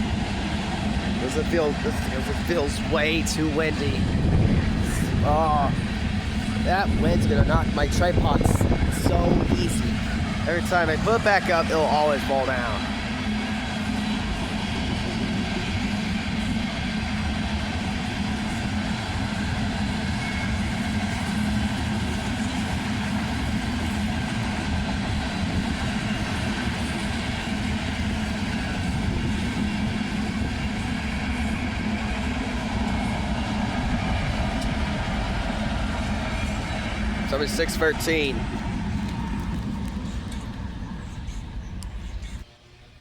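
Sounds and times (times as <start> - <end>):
train cars rolling on rails: 0.0 - 42.5.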